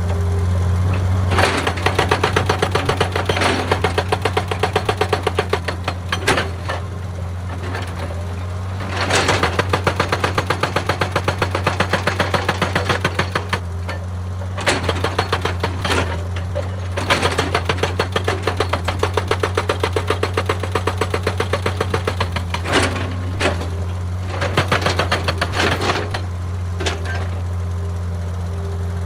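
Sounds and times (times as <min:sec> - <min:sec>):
diesel engine hum: 0:00.0 - 0:29.0
hydraulic breaker hammering stone: 0:01.3 - 0:06.9, 0:07.6 - 0:27.4.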